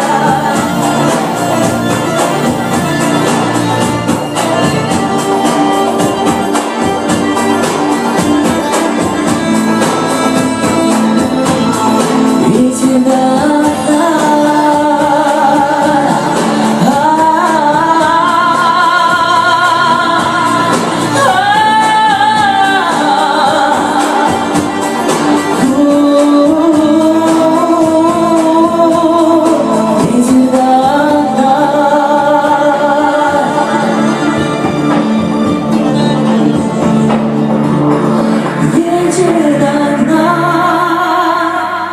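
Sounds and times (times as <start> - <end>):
pop song with wavering vocals: 0.0 - 41.9.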